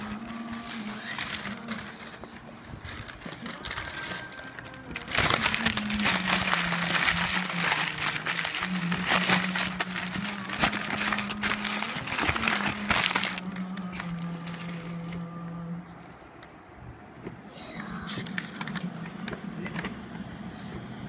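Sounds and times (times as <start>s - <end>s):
packing paper crinkling: 0.0s - 16.3s, 18.0s - 19.8s.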